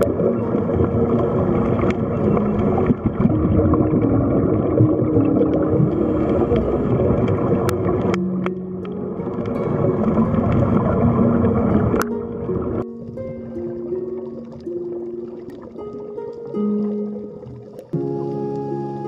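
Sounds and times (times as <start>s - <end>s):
ambient music with low notes: 0.0s - 19.0s
underwater bubbling water: 0.0s - 19.0s.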